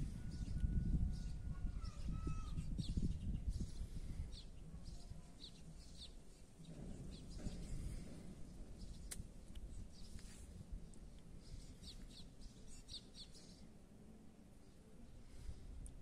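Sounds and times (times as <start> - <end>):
birds chirping: 0.0 - 10.5, 11.1 - 13.7.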